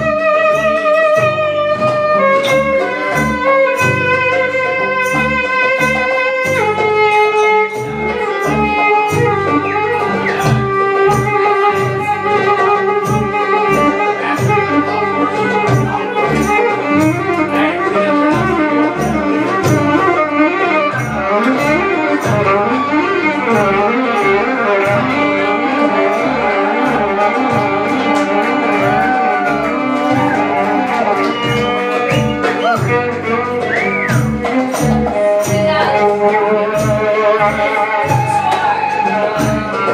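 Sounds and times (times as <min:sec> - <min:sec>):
electric bass guitar line: 0:00.0 - 0:39.9
live band music: 0:00.0 - 0:39.9
violin melody: 0:00.0 - 0:39.9.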